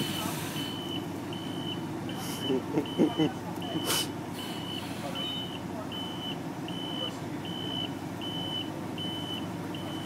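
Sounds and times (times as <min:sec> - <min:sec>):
engine humming: 0:00.0 - 0:10.0
reversing alarm beeps: 0:00.1 - 0:10.0.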